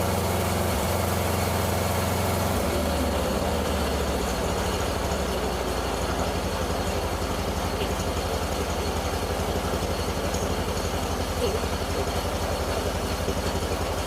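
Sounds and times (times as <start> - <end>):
lawn tractor engine running: 0.0 - 14.0.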